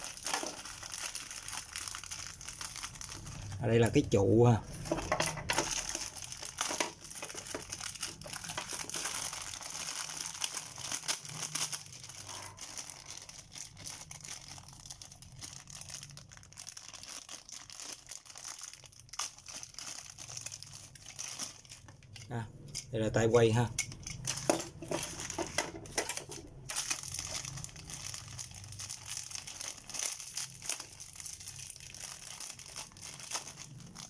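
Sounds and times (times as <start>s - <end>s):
plastic bags crinkling: 0.0s - 34.0s.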